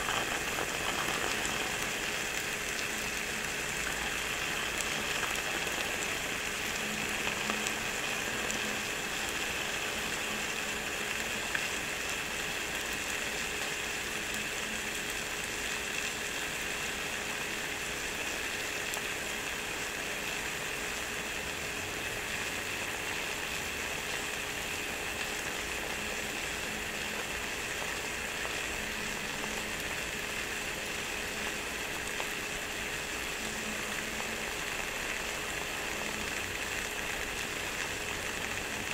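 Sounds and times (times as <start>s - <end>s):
dough sizzling in waffle maker: 0.0s - 38.9s.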